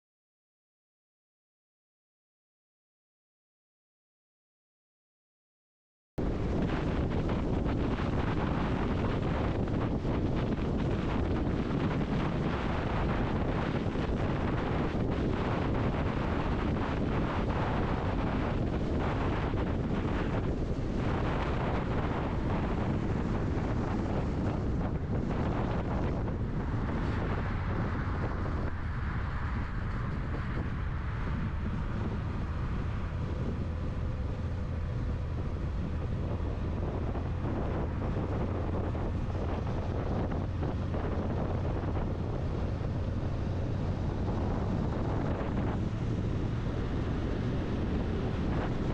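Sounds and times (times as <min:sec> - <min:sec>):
road and wind noise: 0:06.2 - 0:48.9.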